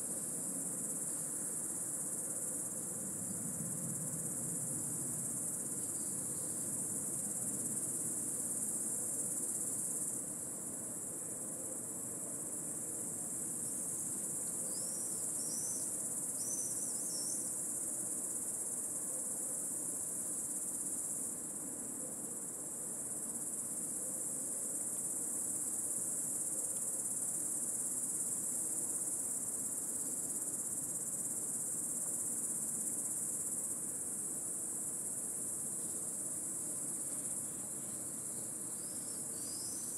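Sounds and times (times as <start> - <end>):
cicadas chorus: 0.0 - 39.9.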